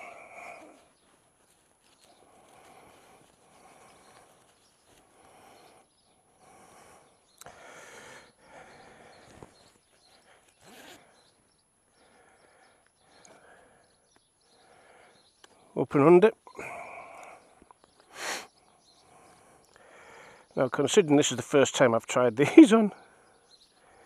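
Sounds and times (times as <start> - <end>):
faint breathing: 0.0 - 15.8, 16.5 - 20.6, 22.9 - 24.0.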